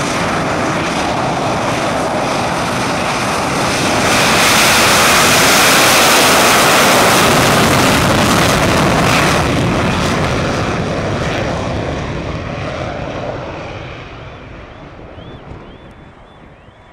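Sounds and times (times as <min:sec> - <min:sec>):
jet engines at full power: 0:00.0 - 0:16.9.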